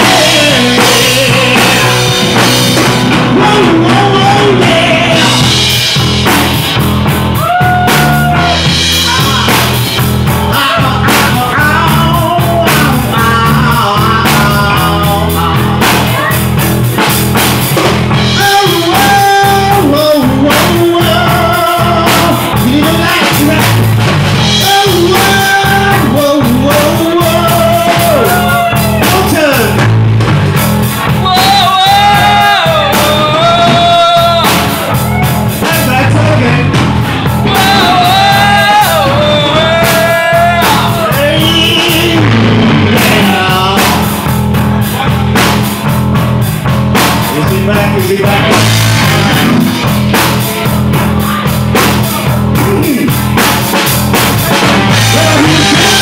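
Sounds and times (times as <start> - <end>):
man singing into a microphone: 0.0 - 6.0, 7.4 - 16.7, 18.1 - 29.9, 31.0 - 45.4, 47.2 - 53.4, 54.4 - 56.0
bass guitar: 0.0 - 56.0
drum kit: 0.0 - 56.0
electric guitar: 0.0 - 56.0.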